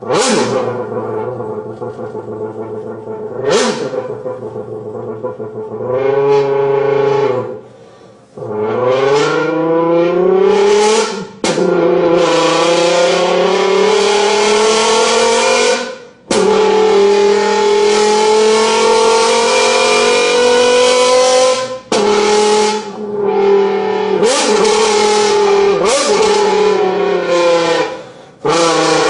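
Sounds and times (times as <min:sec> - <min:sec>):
person imitating car engine: 0:00.0 - 0:07.7, 0:08.3 - 0:29.0.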